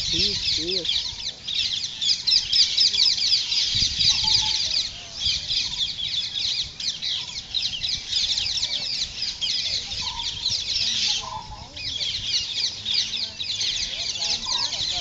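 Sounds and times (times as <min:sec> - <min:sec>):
birds chattering: 0:00.0 - 0:15.0.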